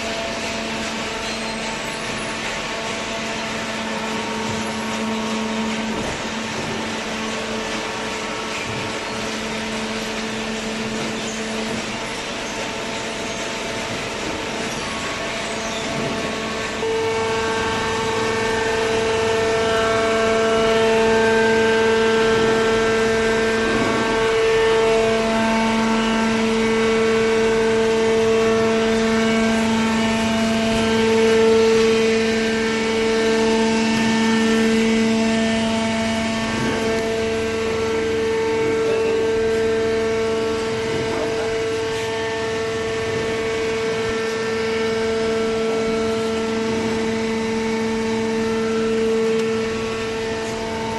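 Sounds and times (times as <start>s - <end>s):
hydraulic baler motor whine: 0.0s - 50.9s.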